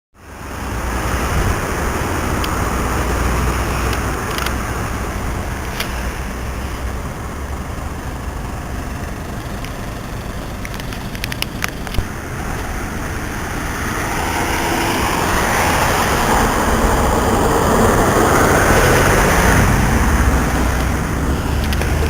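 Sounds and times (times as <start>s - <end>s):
rumble of cars driving past: 0.2s - 22.0s.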